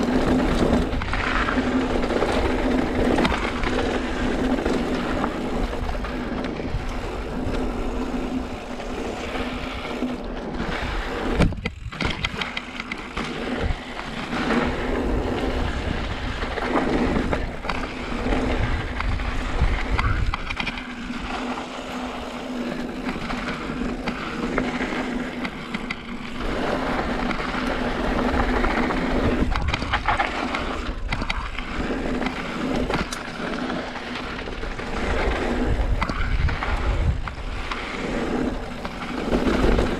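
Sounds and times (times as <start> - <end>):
bike rattling and knocking: 0.0 - 39.9
bike tyres on loose rock: 0.0 - 39.9.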